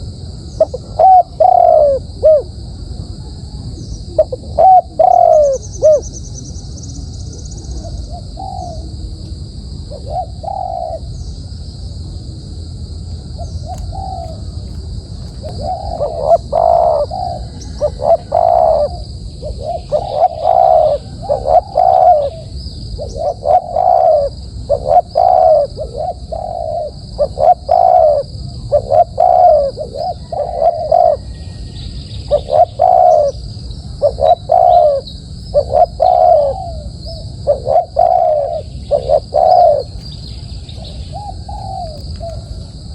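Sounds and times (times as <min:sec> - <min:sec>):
dove cooing: 0:00.0 - 0:09.2, 0:09.8 - 0:11.2, 0:13.2 - 0:42.9.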